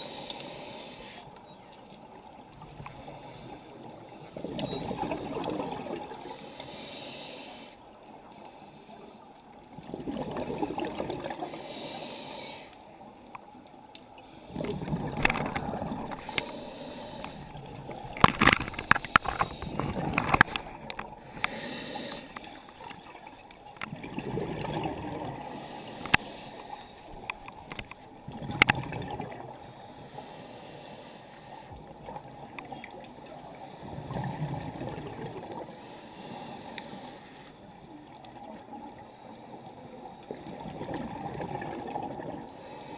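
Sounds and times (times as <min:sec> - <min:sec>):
exhaled air bubbling underwater: 0:00.0 - 0:08.3, 0:09.5 - 0:12.6, 0:14.2 - 0:42.9.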